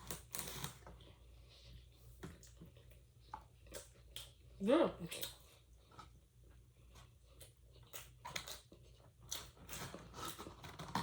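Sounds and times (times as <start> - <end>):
chewing a burger: 0.0 - 4.6, 5.2 - 11.0.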